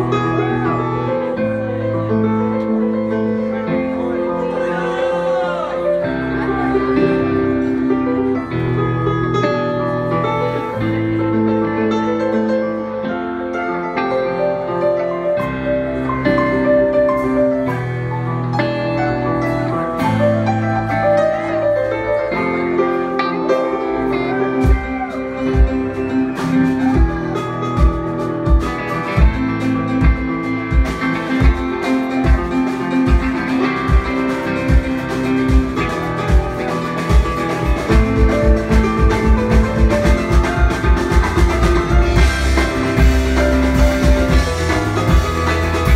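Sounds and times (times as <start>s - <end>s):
bass: 0.0s - 45.9s
keyboard chords: 0.0s - 45.9s.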